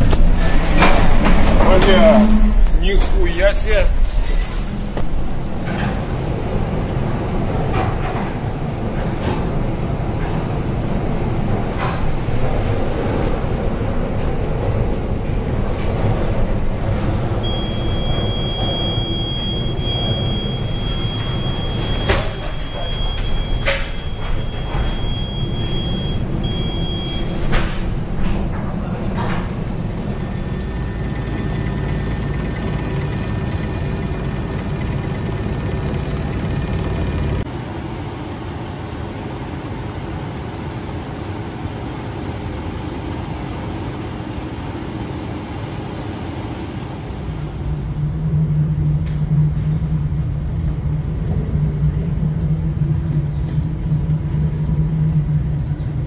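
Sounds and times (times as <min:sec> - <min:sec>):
aircraft engine drone: 0:00.0 - 0:28.2, 0:29.2 - 0:48.4.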